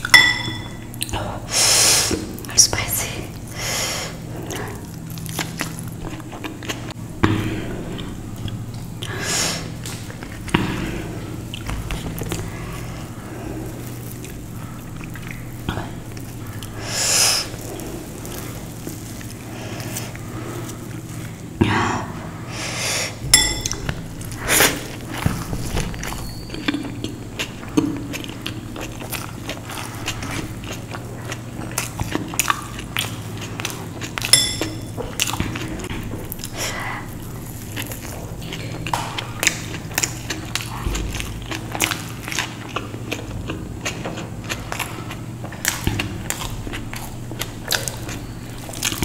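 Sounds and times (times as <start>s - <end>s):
steady low hum: 0.0s - 49.0s
person chewing and biting food: 3.4s - 21.6s, 23.5s - 49.0s.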